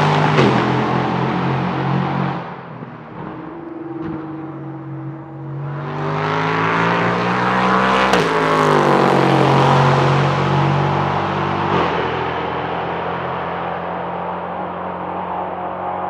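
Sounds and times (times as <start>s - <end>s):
race car engine at full throttle: 0.0s - 16.0s.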